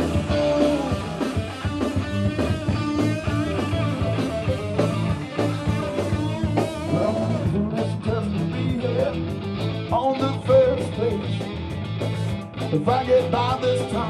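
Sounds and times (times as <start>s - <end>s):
drum kit beat: 0.0s - 14.0s
electric guitar: 0.0s - 14.0s.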